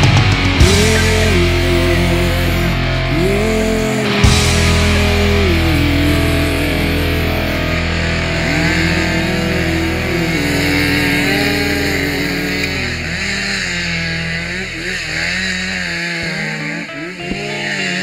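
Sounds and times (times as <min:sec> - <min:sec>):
rock music with distorted guitar: 0:00.0 - 0:18.0.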